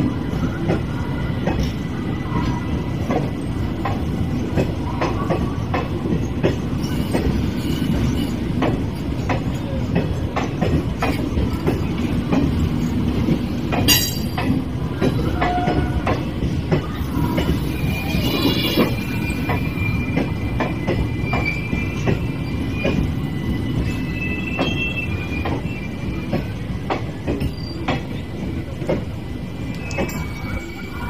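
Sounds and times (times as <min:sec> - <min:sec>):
train coaches rumbling past: 0:00.0 - 0:31.0
train wheels squealing: 0:00.0 - 0:31.0
wheels clicking over rail joints: 0:03.0 - 0:23.2, 0:23.8 - 0:31.0.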